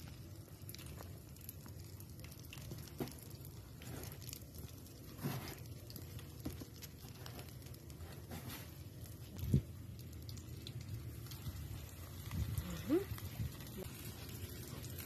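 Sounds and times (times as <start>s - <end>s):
breadcrumbs crunching and rustling: 0.0s - 15.0s.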